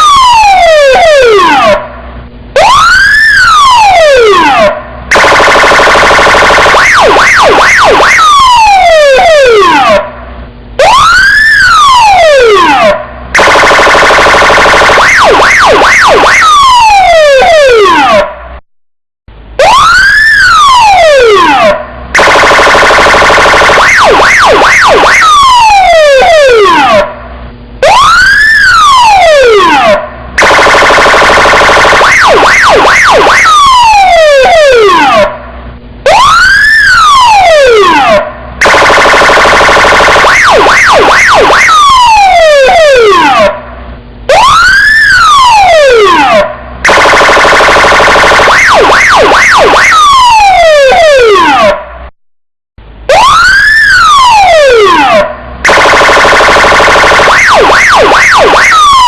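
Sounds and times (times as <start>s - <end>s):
electronic police siren: 0.0s - 18.6s, 19.6s - 52.1s, 52.9s - 59.0s.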